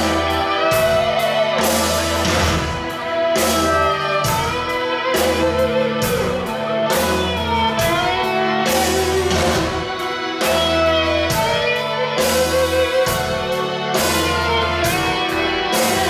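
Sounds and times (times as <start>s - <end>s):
drum and cymbal hits: 0.0s - 16.0s
electric guitar lead: 0.0s - 16.0s
keyboards: 0.0s - 16.0s
sustained bass notes: 0.0s - 16.0s.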